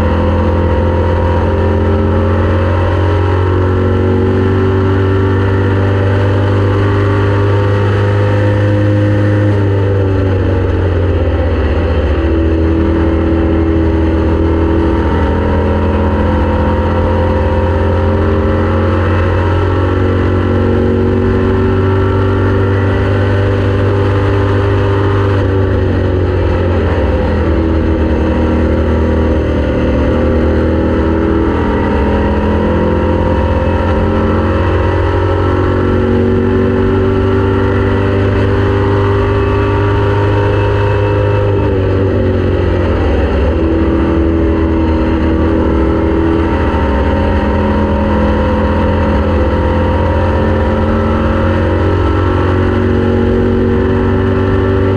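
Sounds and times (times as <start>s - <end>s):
race car engine: 0.0s - 54.9s.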